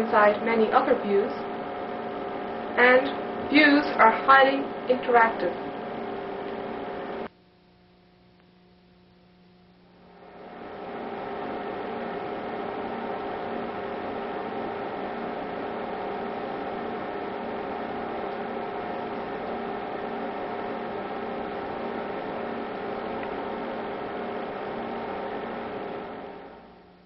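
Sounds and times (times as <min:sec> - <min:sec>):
electrical hum with hiss: 0:00.0 - 0:27.0.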